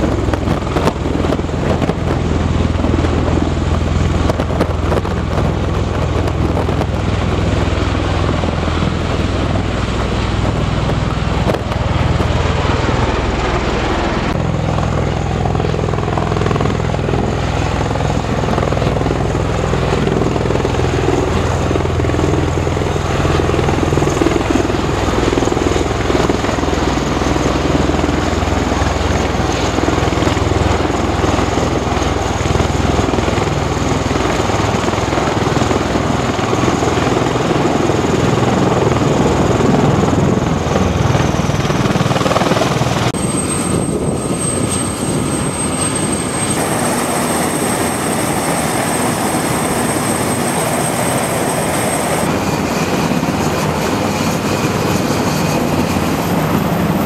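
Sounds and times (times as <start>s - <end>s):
helicopter rotors turning: 0.0s - 57.0s
tiltrotor aircraft hovering: 0.0s - 57.0s.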